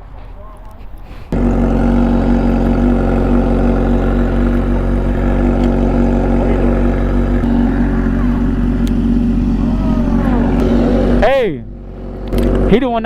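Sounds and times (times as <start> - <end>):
vehicle engine idling: 1.3 - 13.0.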